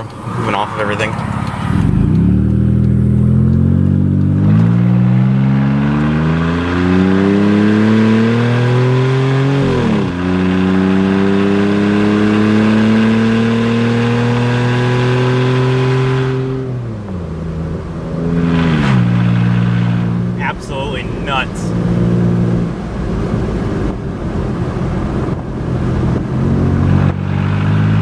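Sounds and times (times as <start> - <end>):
loud car engine accelerating: 0.0 - 28.0.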